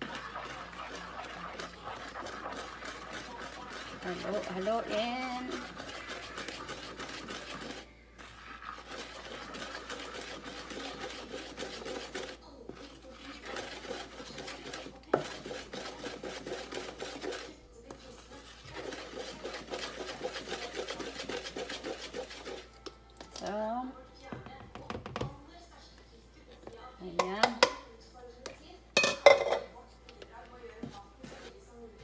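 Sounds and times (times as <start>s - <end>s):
wooden spoon stirring dough: 0.0s - 25.4s, 30.1s - 32.0s.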